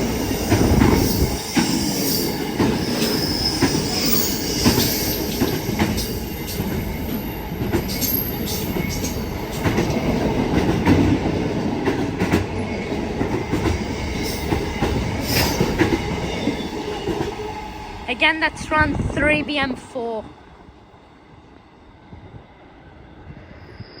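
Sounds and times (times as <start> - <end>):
freight train wagons rumbling: 0.0 - 20.4.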